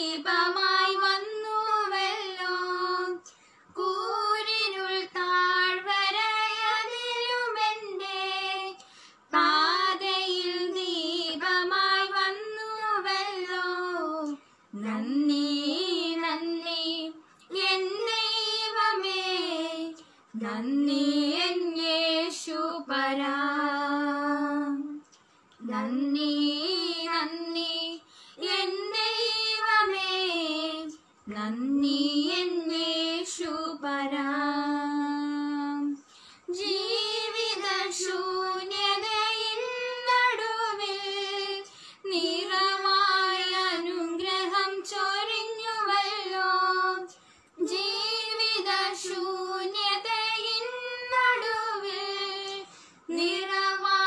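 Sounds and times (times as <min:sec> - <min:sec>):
two women singing unaccompanied: 0:00.0 - 0:54.0.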